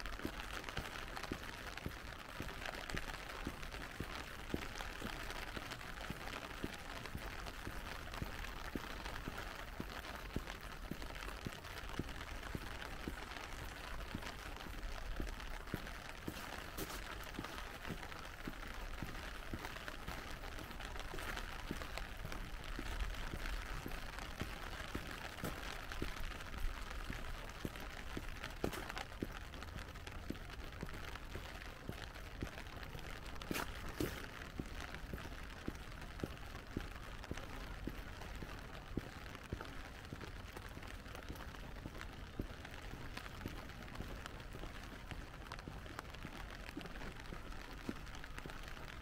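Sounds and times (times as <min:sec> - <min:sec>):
rain drips ticking: 0:00.0 - 0:49.0.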